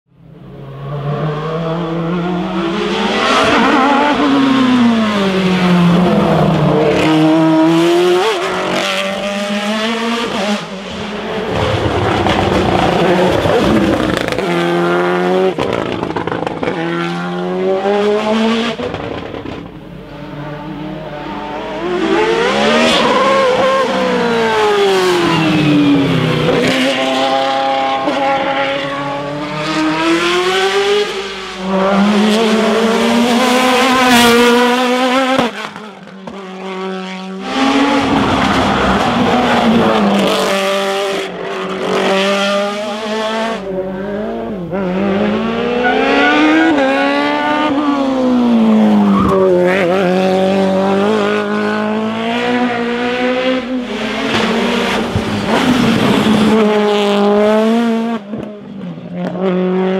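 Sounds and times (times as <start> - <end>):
racing car engines revving: 0.3 - 59.9.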